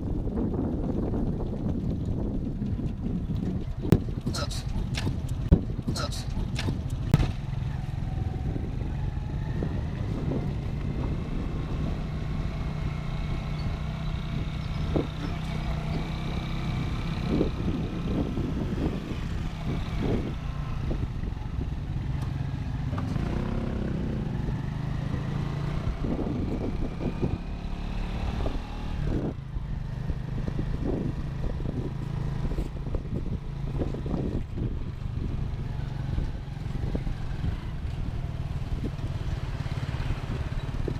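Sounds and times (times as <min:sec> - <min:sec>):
motorcycle engine running: 0:00.0 - 0:40.9
wind rumbling on microphone: 0:00.0 - 0:40.9.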